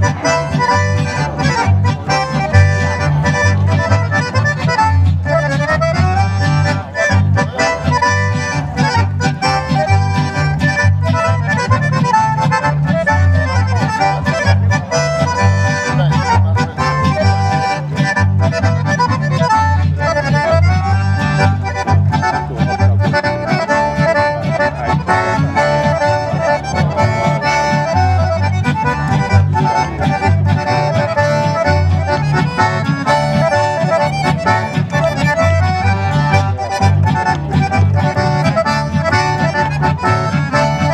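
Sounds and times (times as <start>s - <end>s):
accordions playing: 0.0s - 40.9s
strummed acoustic guitar: 0.0s - 40.9s
upright bass: 0.0s - 40.9s.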